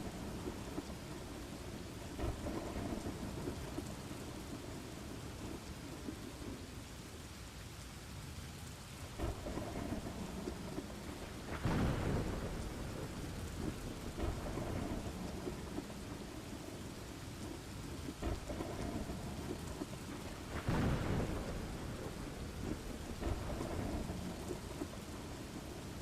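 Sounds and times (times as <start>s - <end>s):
thunder rumble: 0.0s - 6.8s, 9.1s - 26.0s
steady rain falling: 0.0s - 26.0s.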